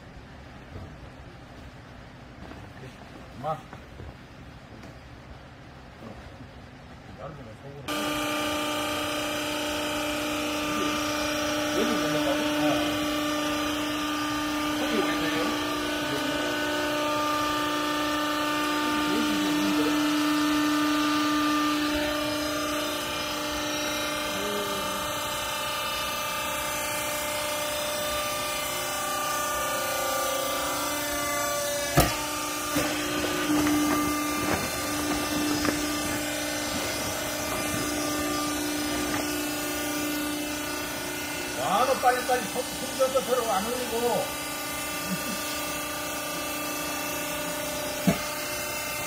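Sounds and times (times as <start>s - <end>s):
hydraulic pump motor humming: 7.9s - 49.0s.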